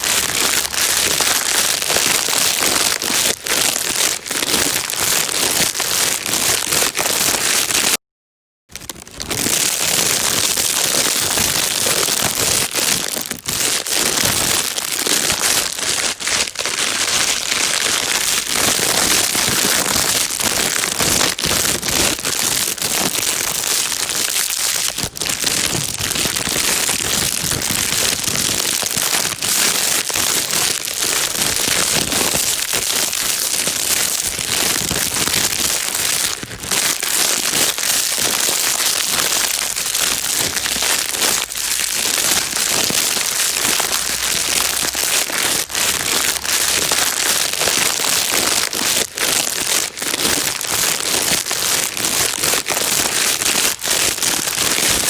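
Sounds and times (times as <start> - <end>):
plastic bag crinkling: 0.0 - 8.0, 8.7 - 55.0.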